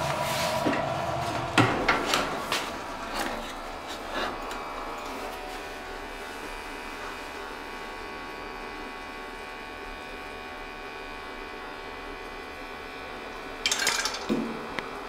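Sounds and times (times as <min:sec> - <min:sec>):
boiler feed system humming: 0:00.0 - 0:15.0.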